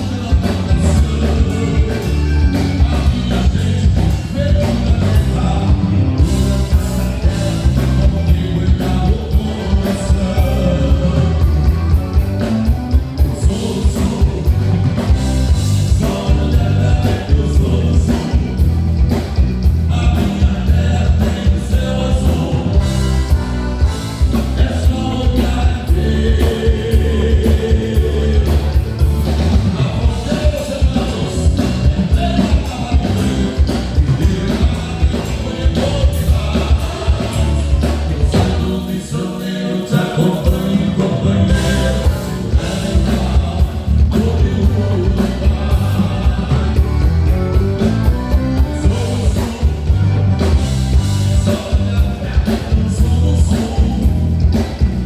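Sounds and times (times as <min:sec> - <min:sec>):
person singing: 0:00.0 - 0:54.8
live band playing: 0:00.0 - 0:55.0.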